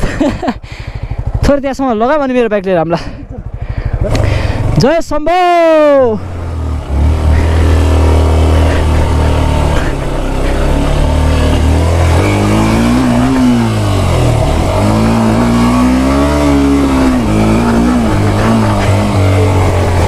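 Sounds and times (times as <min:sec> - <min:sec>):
motorcycle engine revving: 0:00.8 - 0:20.0.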